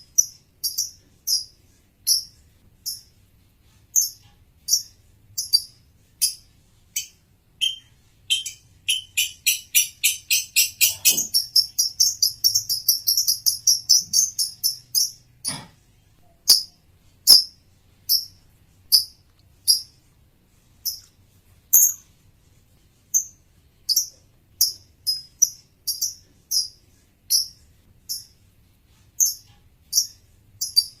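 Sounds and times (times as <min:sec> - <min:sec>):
lovebird chirping: 0:00.0 - 0:03.2, 0:03.9 - 0:20.0, 0:20.8 - 0:22.1, 0:23.1 - 0:28.4, 0:29.2 - 0:31.0.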